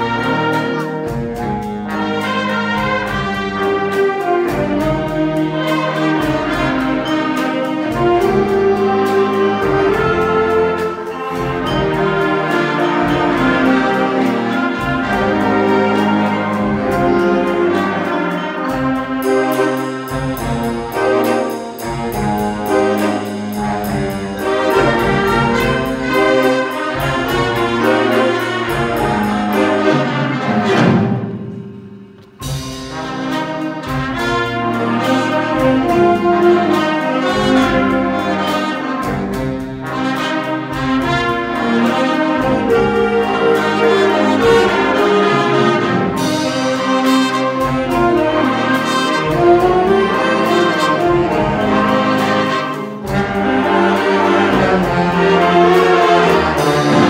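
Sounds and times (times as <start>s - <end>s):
jazz band playing: 0.0s - 57.0s.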